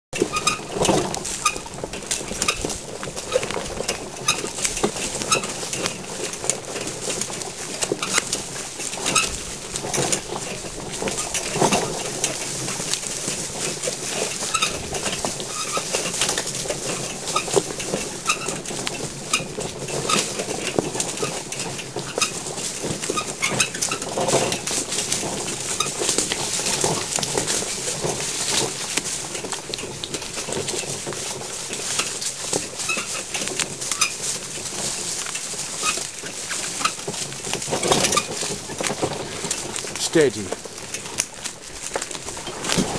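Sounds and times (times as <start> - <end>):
hooves on rough track: 0.1 - 42.9.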